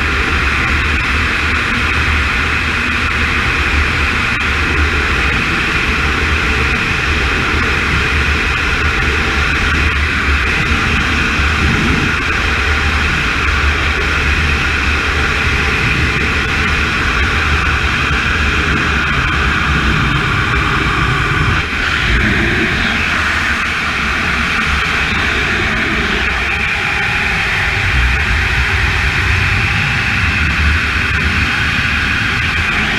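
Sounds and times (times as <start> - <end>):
wind roaring over camera: 0.0 - 32.9.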